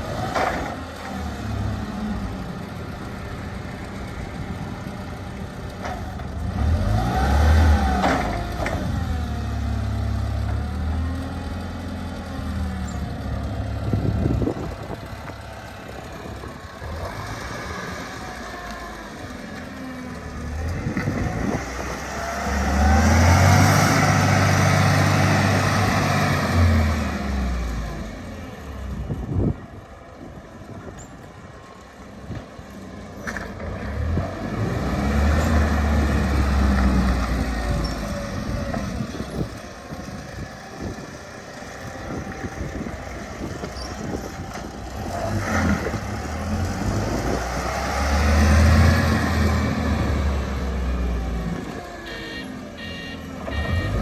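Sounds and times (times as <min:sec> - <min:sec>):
forklift engine revving: 0:00.0 - 0:29.3, 0:33.5 - 0:54.0.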